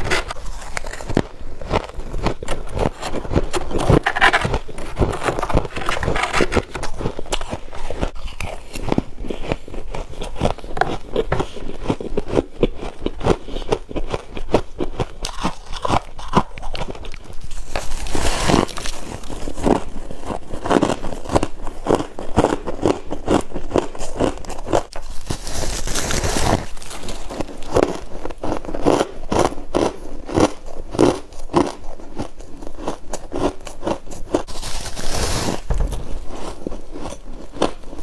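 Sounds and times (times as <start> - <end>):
person chewing crunchy frost: 0.0 - 38.0.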